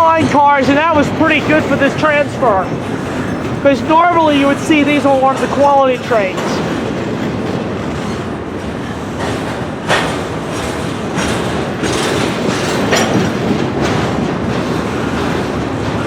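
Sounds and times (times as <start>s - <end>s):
train wheels rumbling on rail: 0.0s - 16.0s
wheels clacking on rail joints: 0.0s - 16.0s.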